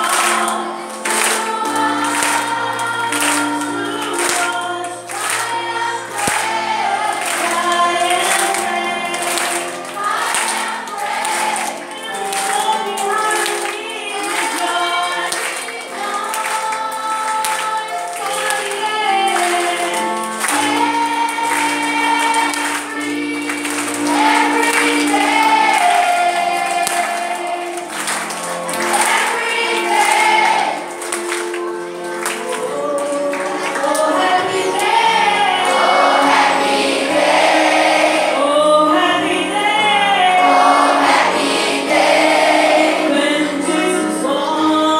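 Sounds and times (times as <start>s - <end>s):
group singing over loudspeaker: 0.0s - 44.9s
musical accompaniment: 0.0s - 44.9s.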